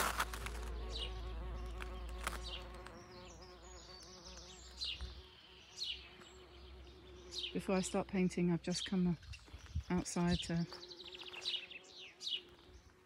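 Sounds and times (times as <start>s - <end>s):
bee buzzing: 0.0s - 9.2s, 10.0s - 13.0s.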